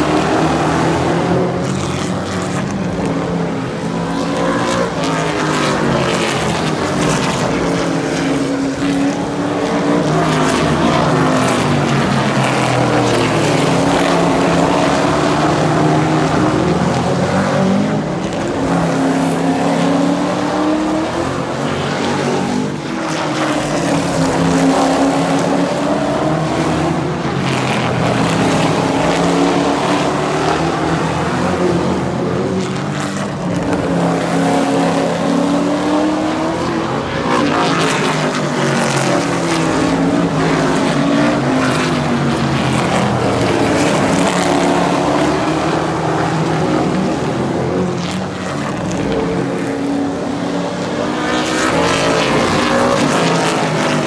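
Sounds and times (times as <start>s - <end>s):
race truck engines passing: 0.0s - 54.0s.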